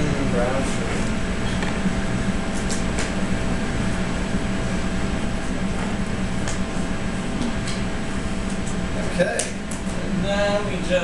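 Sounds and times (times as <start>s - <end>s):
exhaust hood fan drone: 0.0s - 11.0s.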